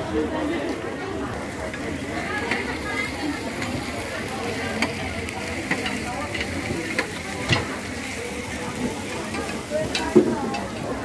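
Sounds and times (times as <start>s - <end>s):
food sizzling in pan: 1.4s - 11.0s.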